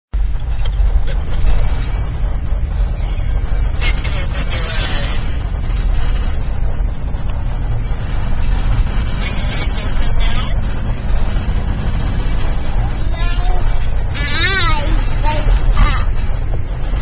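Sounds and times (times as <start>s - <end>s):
truck cabin road and engine rumble: 0.1s - 17.0s.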